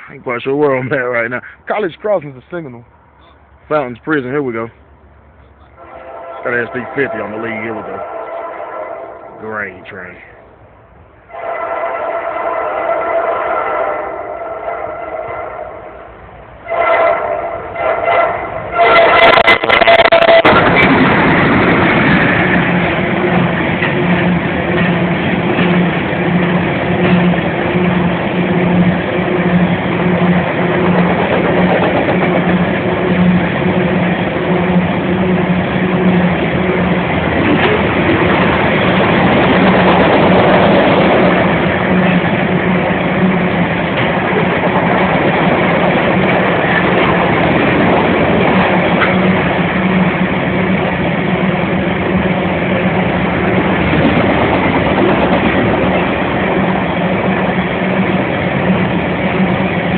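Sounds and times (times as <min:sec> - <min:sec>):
diesel locomotive engine drone: 0:00.0 - 0:59.9
train cars rolling on rails: 0:00.0 - 0:59.9.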